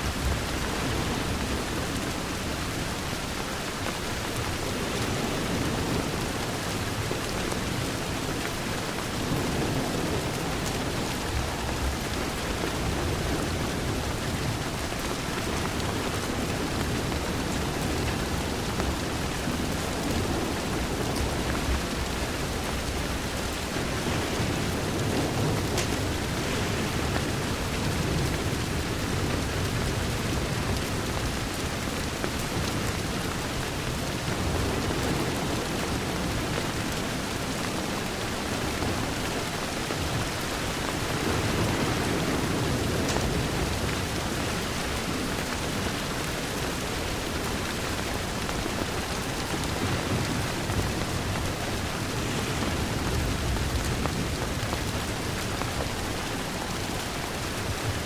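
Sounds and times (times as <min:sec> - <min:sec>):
rain against a window: 0:00.0 - 0:58.0.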